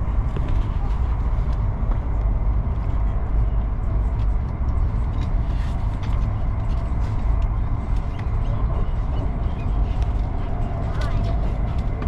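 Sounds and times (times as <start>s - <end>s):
train interior rumble: 0.0s - 12.0s.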